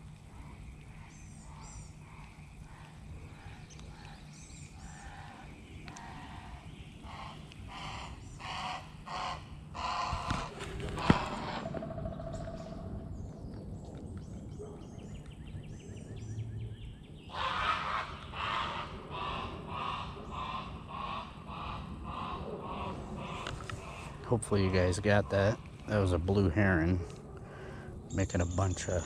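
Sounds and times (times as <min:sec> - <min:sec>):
heron calling: 0:00.4 - 0:12.8, 0:17.3 - 0:29.0.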